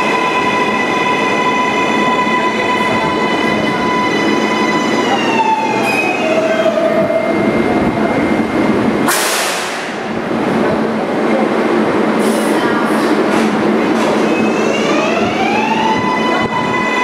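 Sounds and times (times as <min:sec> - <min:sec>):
subway train whine: 0:00.0 - 0:17.0.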